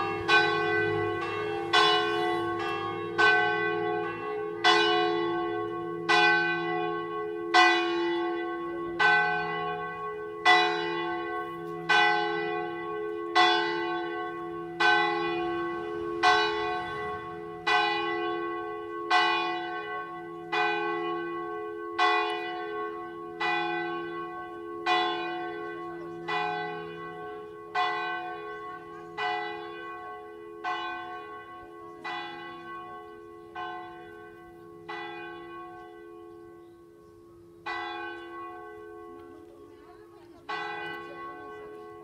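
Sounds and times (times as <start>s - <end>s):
church bell strokes: 0.0s - 39.6s.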